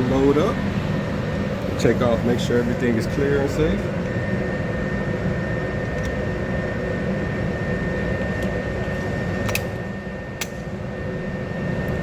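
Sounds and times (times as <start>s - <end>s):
faint high whine: 0.0s - 12.0s
rumbling ventilation noise: 0.0s - 12.0s.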